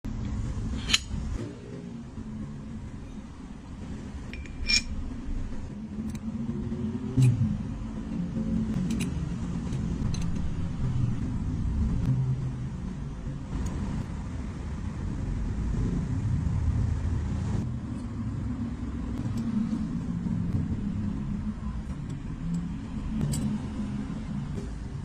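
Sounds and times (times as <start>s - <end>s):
vehicle mechanical rumble: 0.0s - 25.0s.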